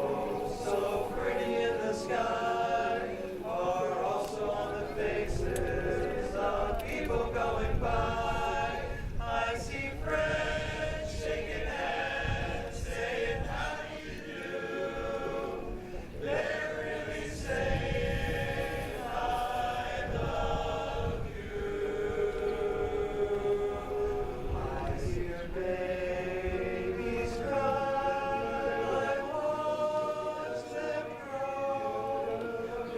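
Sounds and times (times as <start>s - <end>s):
a cappella choir singing chords: 0.0s - 32.9s.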